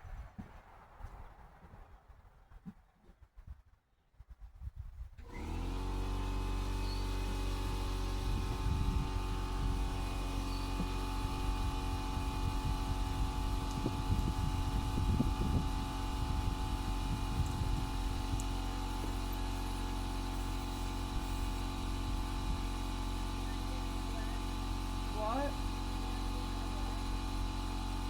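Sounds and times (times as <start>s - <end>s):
machine humming: 5.3s - 28.0s.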